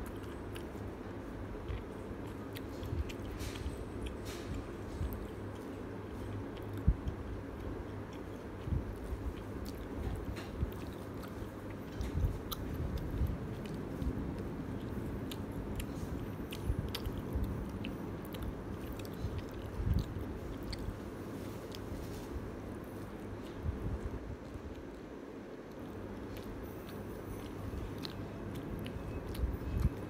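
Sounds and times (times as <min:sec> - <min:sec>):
person chewing pizza: 0:00.0 - 0:30.0.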